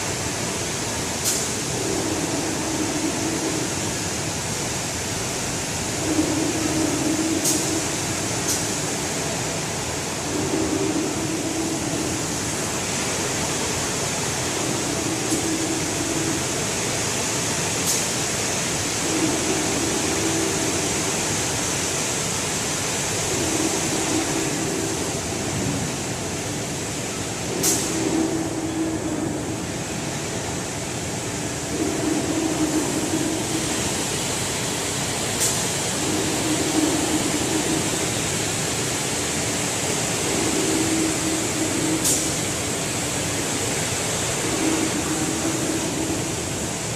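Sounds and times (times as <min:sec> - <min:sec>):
low machine hum: 0:00.0 - 0:46.9
water spraying from nozzles: 0:00.0 - 0:46.9.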